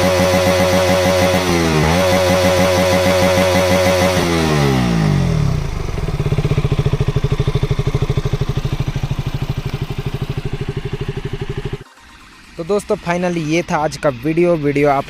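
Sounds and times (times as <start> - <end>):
motorcycle engine revving and idling: 0.0 - 15.0.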